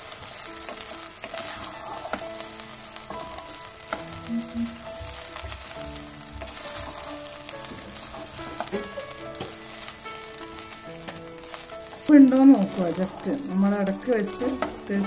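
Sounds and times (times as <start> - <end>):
rice sizzling in a pot: 0.0 - 15.0
soft background music: 0.0 - 15.0
spatula scraping a pan: 0.2 - 4.2, 5.2 - 15.0.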